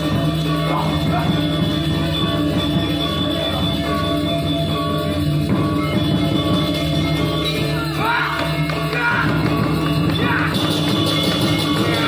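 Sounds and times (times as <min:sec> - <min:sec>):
gamelan metallophones and gongs: 0:00.0 - 0:12.0.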